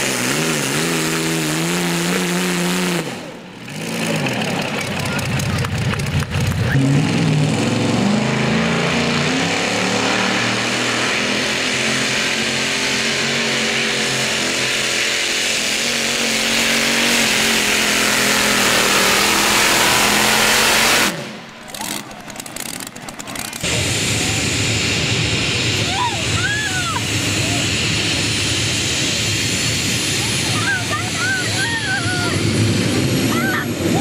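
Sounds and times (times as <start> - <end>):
tractor engines running flat out: 0.0 - 34.0.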